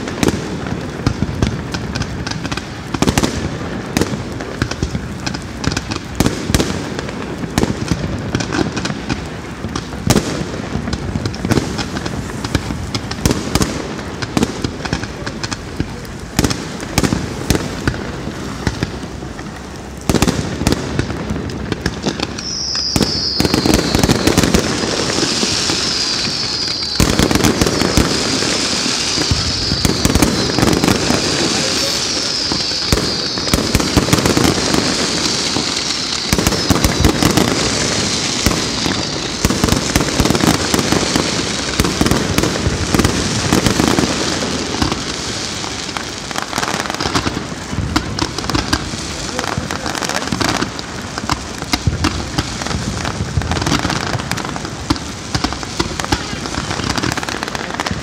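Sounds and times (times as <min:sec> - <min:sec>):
fireworks bangs: 0:00.0 - 0:58.0
fireworks crackle: 0:00.0 - 0:58.0
whistling fireworks: 0:00.0 - 0:58.0.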